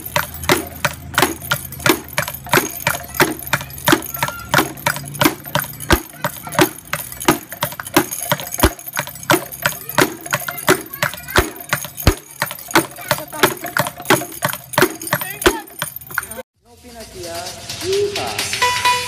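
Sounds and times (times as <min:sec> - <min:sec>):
hard objects knocking together: 0:00.0 - 0:16.4.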